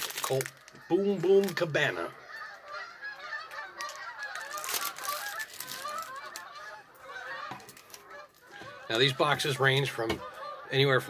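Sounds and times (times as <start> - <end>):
rustles: 0.0 - 8.9
birds warbling calls: 0.2 - 11.0.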